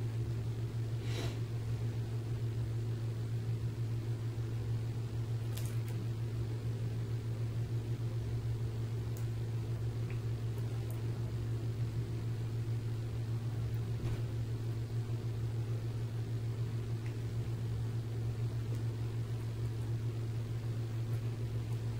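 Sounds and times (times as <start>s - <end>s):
low hum of running equipment: 0.0s - 21.9s.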